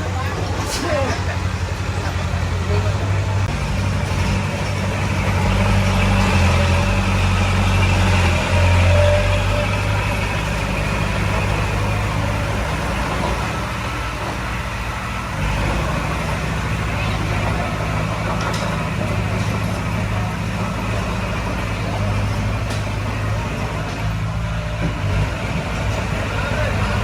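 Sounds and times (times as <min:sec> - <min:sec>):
diesel engine under load: 0:00.0 - 0:27.0.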